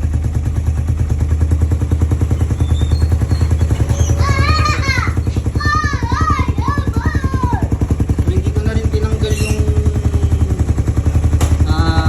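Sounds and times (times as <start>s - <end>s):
engine idling with pulsing throb: 0.0s - 12.0s.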